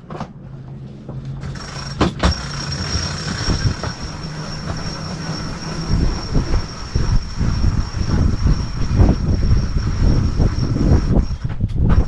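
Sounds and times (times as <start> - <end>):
low engine hum: 0.3 - 12.0
winch whining: 1.4 - 12.0.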